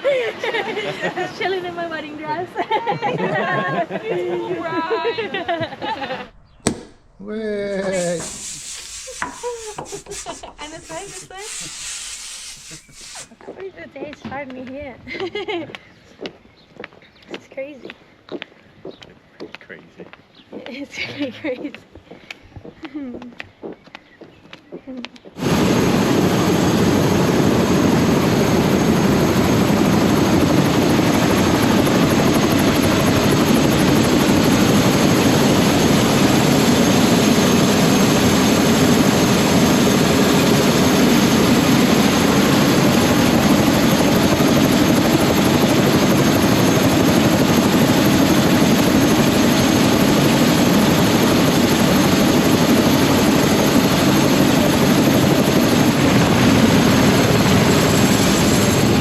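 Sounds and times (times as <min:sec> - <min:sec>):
helicopter rotor and engine: 0:00.0 - 0:08.5, 0:09.2 - 0:15.7, 0:25.2 - 0:59.0.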